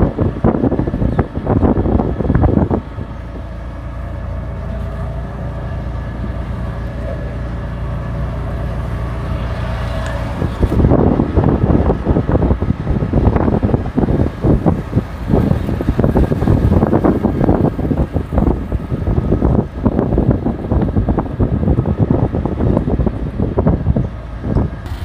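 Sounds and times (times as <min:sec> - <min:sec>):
auto-rickshaw running noise: 0:00.0 - 0:25.0
wind buffeting microphone: 0:00.0 - 0:25.0.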